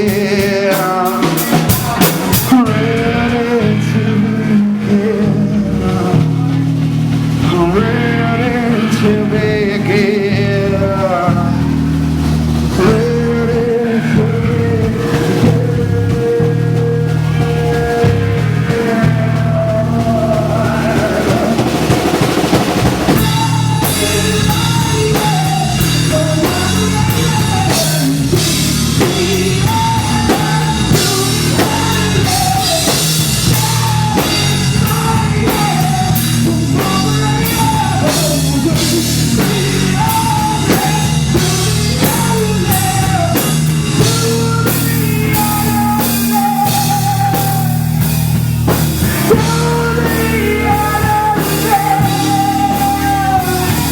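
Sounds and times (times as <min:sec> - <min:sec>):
bass guitar: 0:00.0 - 0:53.9
bending lead melody: 0:00.0 - 0:53.9
drum kit: 0:00.0 - 0:53.9
rock band playing: 0:00.0 - 0:53.9.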